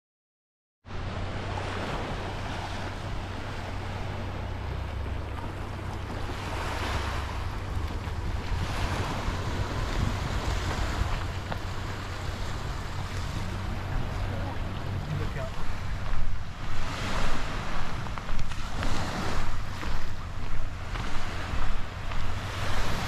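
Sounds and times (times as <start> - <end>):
sea waves washing onto beach: 0.9 - 23.0
wind buffeting microphone: 0.9 - 23.0.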